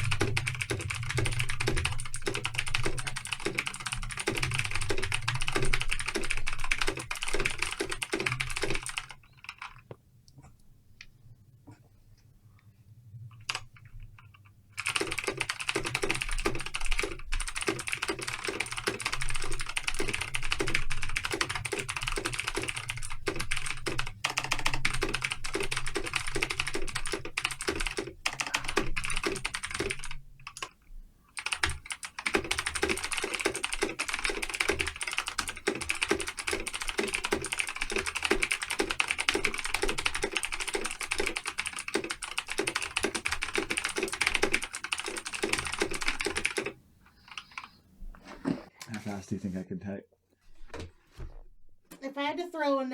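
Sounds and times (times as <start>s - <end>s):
rapid keyboard typing: 0.0s - 9.9s, 13.4s - 47.8s.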